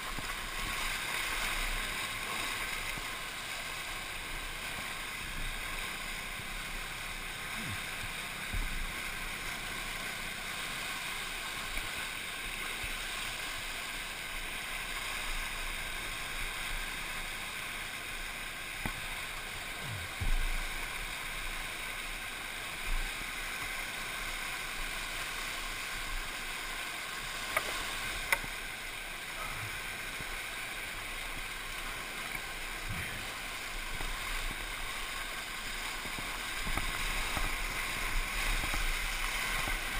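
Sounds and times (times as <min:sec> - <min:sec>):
muffled whitewater rushing: 0:00.0 - 0:39.9.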